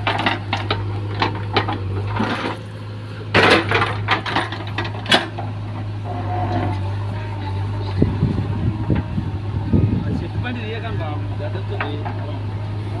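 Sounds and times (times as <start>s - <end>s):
backhoe engine running: 0.0s - 13.0s.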